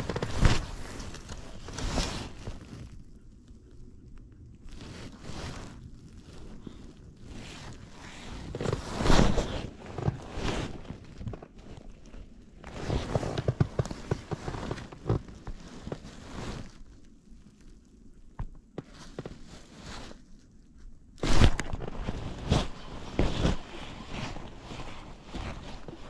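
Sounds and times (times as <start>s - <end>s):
jacket sleeve rustling on microphone: 0.0s - 3.1s, 4.7s - 17.0s, 18.8s - 20.5s, 21.2s - 26.0s.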